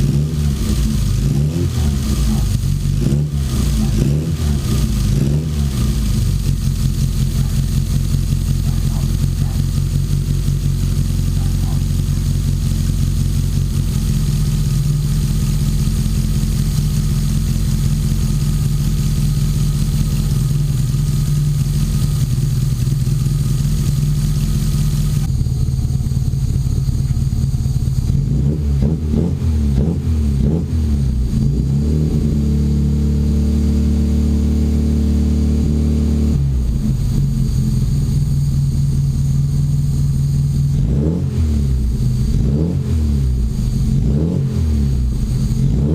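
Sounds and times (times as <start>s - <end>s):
car engine running and revving: 0.0s - 45.9s.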